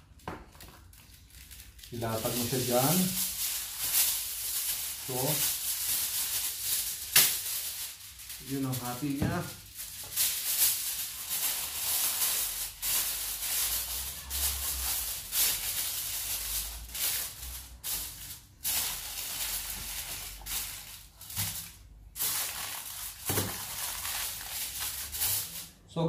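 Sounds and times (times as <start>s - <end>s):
aluminium foil crinkling: 0.0s - 25.8s.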